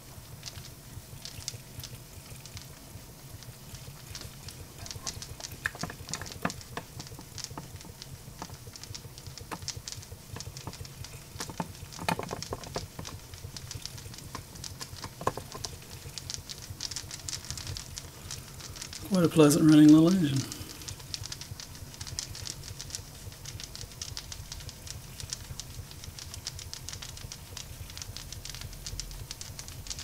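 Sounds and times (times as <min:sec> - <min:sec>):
light ticks and crackling pops: 0:00.0 - 0:30.0.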